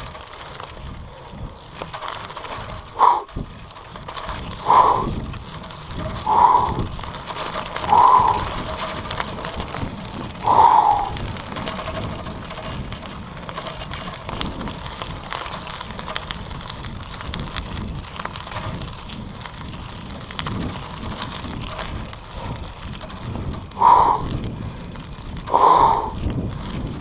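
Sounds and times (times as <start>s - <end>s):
bicycle rattling and clicking: 0.0s - 27.0s
wind noise on microphone: 0.0s - 27.0s.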